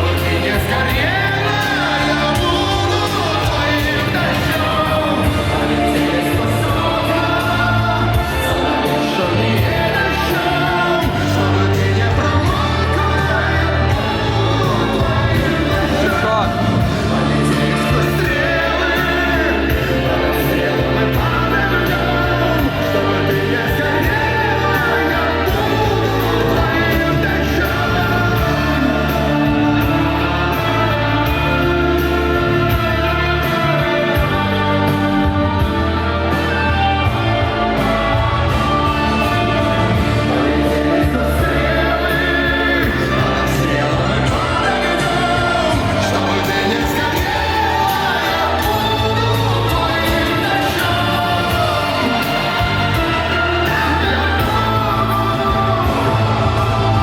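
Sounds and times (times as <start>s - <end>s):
pop song with group vocals: 0.0s - 57.0s.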